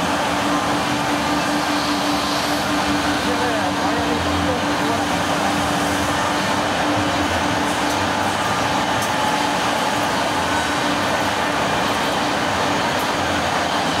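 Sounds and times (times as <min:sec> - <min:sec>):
low machine hum: 0:00.0 - 0:14.0
machinery noise: 0:00.0 - 0:14.0.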